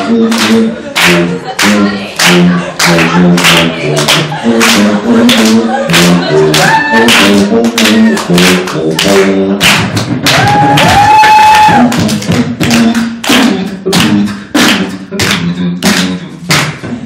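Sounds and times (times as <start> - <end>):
beatboxing drum sounds: 0.0 - 17.0
hummed bass line: 0.0 - 17.0.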